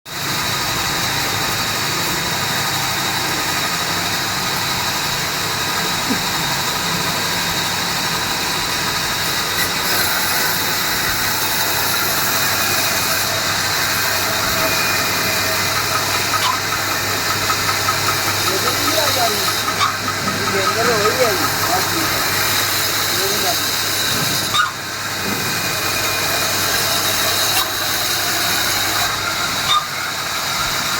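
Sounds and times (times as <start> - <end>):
woodworking machine running: 0.1 - 30.9.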